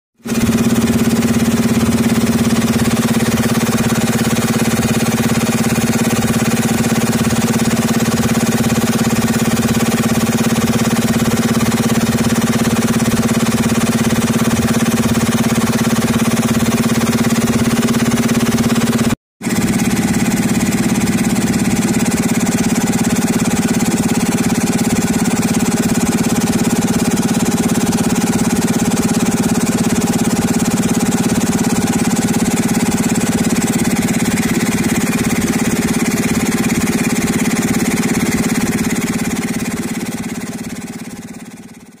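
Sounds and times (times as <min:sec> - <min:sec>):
air compressor running: 0:00.2 - 0:42.0.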